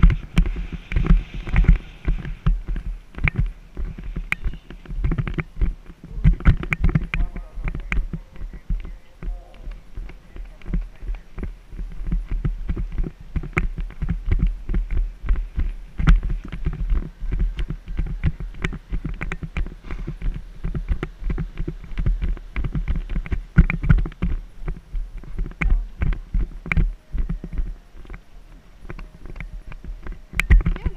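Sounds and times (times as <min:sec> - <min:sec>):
horse hooves thudding on turf: 0:00.0 - 0:30.9.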